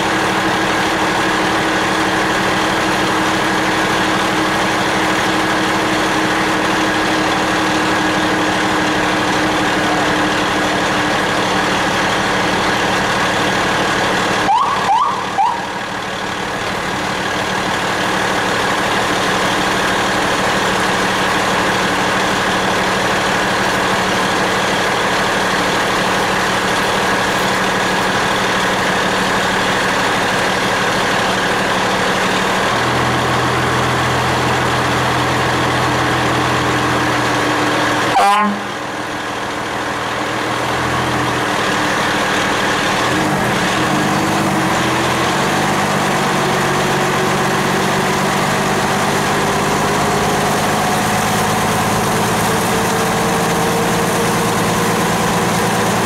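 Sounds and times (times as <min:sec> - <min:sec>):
truck engine drone: 0:00.0 - 0:56.0.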